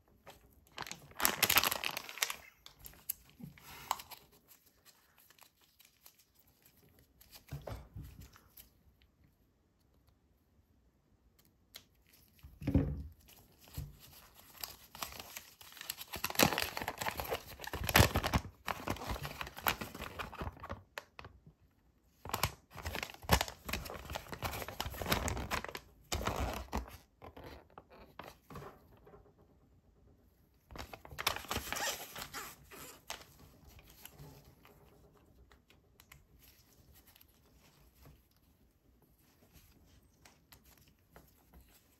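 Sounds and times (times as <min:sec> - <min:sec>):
paper crinkling and rustling: 0:00.1 - 0:08.9, 0:12.0 - 0:21.4, 0:22.1 - 0:27.4, 0:30.6 - 0:41.9.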